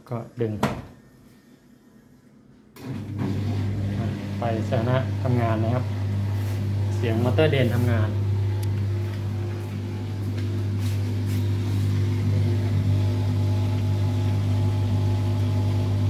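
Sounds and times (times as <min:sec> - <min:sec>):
washing machine motor humming: 0:02.8 - 0:16.0.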